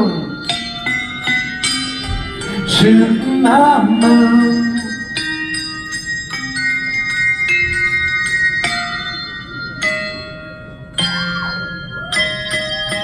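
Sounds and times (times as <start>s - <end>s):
handbells playing slow melody: 0.0s - 13.0s.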